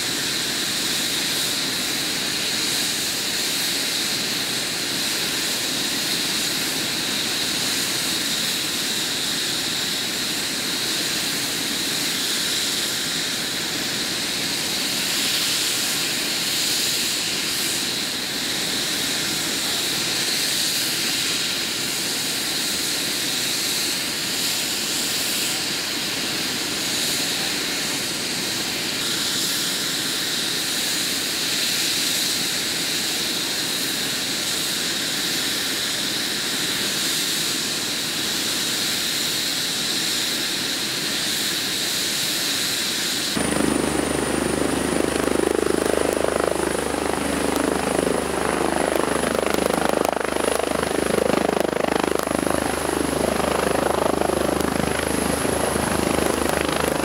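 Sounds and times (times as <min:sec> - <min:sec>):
helicopter rotor rush: 0:00.0 - 0:57.0
helicopter turbine whine: 0:00.0 - 0:57.0.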